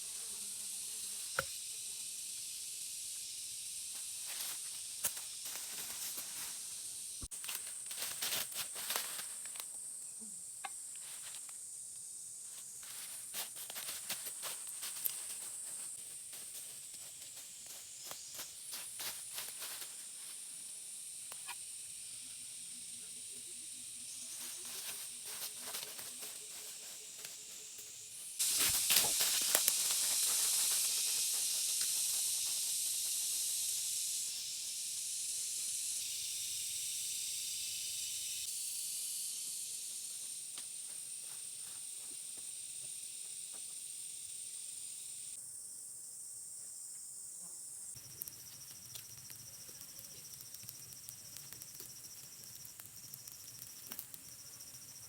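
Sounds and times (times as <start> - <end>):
high-pitched outdoor hiss: 0.0 - 55.0.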